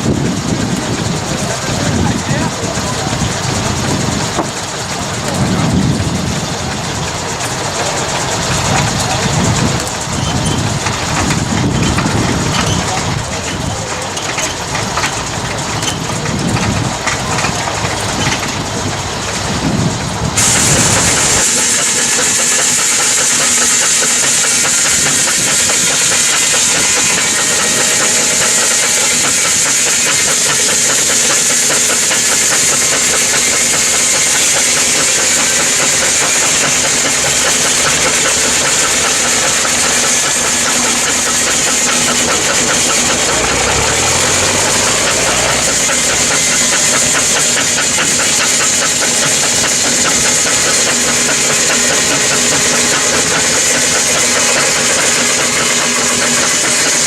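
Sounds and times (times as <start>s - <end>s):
loud hissing noise: 0.0s - 57.0s
machinery running: 0.0s - 57.0s.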